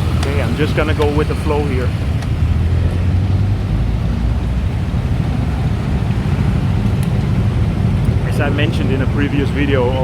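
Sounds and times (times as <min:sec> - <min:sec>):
city road traffic rumble: 0:00.0 - 0:10.0.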